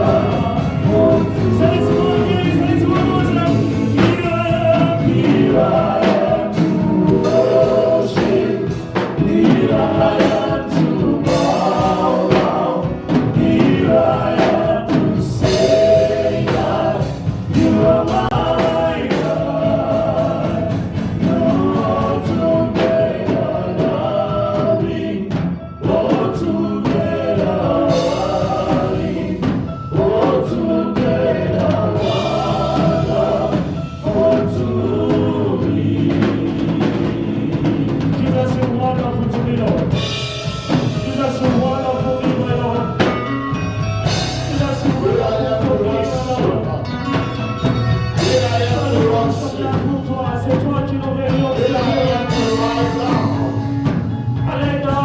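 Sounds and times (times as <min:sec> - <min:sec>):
drum kit and band playing: 0:00.0 - 0:55.0
group singing gospel: 0:00.0 - 0:55.0.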